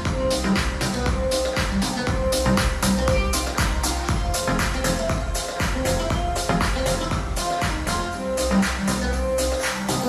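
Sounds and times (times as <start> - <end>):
electronic pop song: 0.0 - 10.0.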